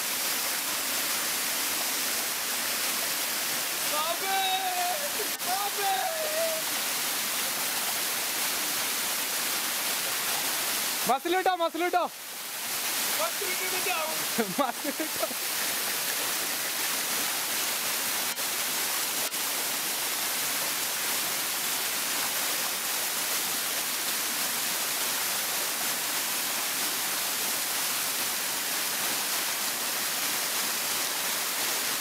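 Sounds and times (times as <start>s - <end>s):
waterfall splashing: 0.0s - 32.0s.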